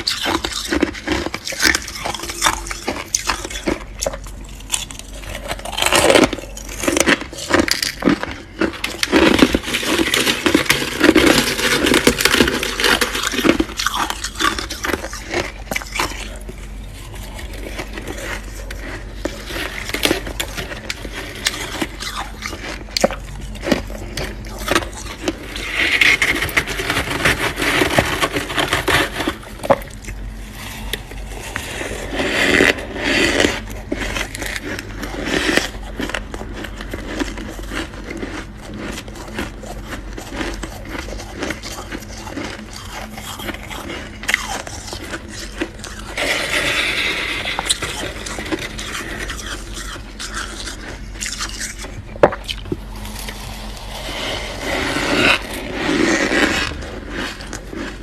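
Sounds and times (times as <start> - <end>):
frost being scraped: 0.0 - 38.0, 38.9 - 52.2, 52.8 - 58.0
frost crunching: 0.0 - 58.0.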